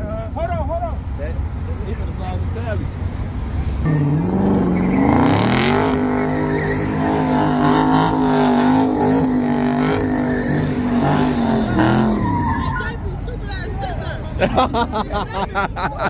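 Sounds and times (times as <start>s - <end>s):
car engine revving: 1.2s - 15.0s.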